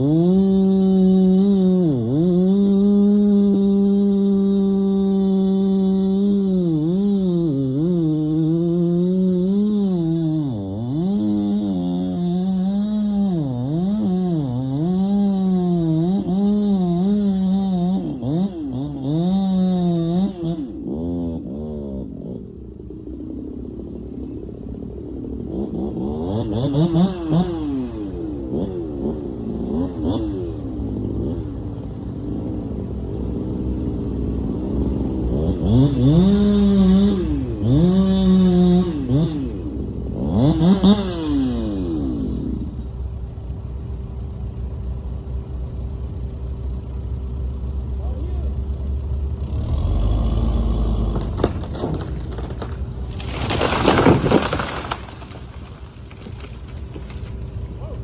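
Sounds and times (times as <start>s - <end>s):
chainsaw cutting wood: 0.0s - 21.9s, 25.5s - 32.6s, 33.2s - 43.0s, 49.4s - 58.0s.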